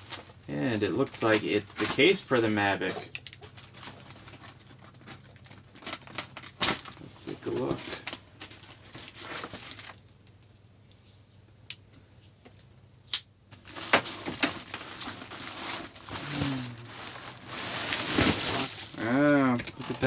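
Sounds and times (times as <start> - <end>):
packaging crinkling and rustling: 0.0 - 10.4, 13.5 - 20.0.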